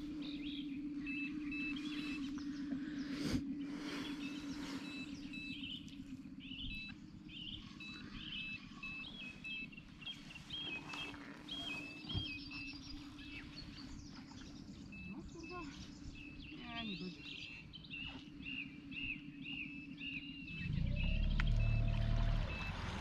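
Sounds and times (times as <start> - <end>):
songbirds chirping: 0.0 - 23.0
steady low hum: 0.0 - 23.0.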